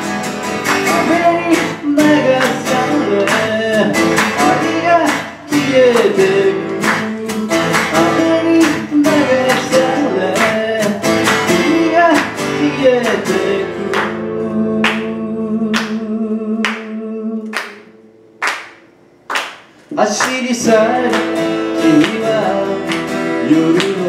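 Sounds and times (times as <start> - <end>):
acoustic guitars strumming: 0.0 - 24.0
man singing: 0.7 - 18.0, 19.9 - 24.0.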